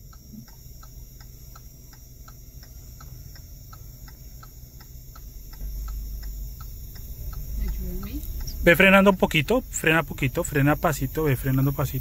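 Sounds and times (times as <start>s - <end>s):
car engine humming: 0.0s - 12.0s
turn signal relay ticking: 0.0s - 12.0s.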